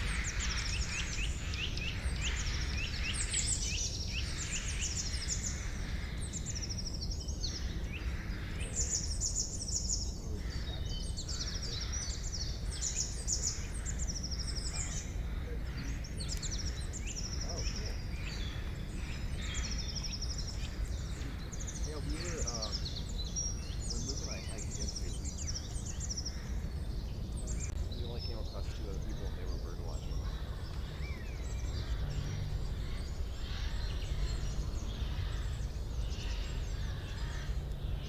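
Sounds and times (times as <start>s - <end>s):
low background rumble: 0.0s - 38.0s
songbirds trilling: 0.0s - 38.0s.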